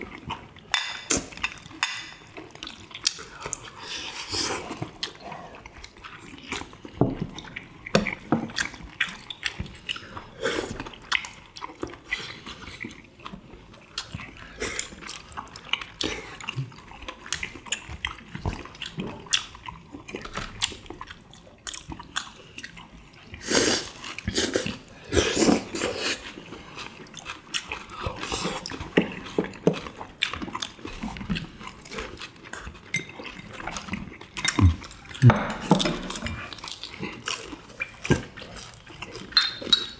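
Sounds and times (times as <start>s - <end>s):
chewing and slurping: 0.0s - 39.9s.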